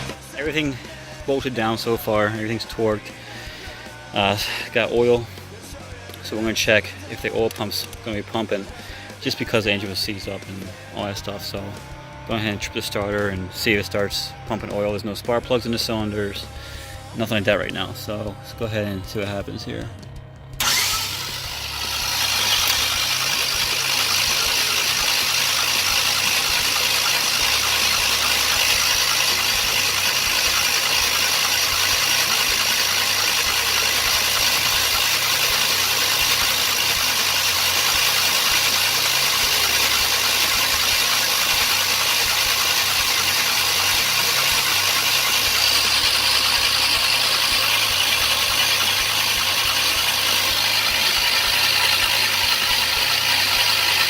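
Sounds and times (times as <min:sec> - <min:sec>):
engine cranking on starter motor: 0:00.0 - 0:54.0.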